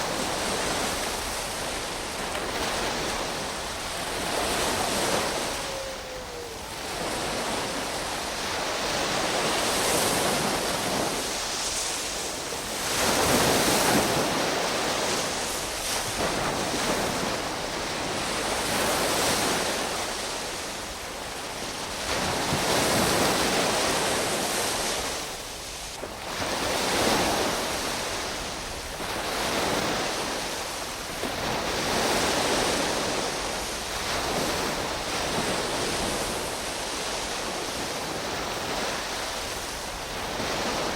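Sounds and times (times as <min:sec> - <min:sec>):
sea waves washing in: 0:00.0 - 0:40.9.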